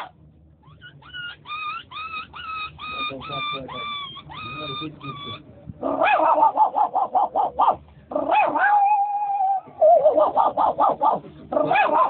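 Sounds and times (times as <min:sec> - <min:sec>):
dog-like yipping: 0:00.0 - 0:12.0.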